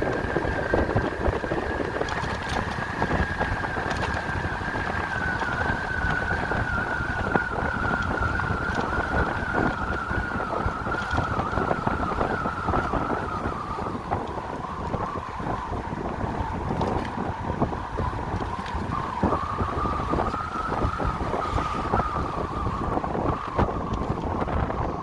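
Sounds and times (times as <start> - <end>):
electric motorcycle motor whining: 0.0 - 25.0
wind rushing across microphone: 0.0 - 25.0.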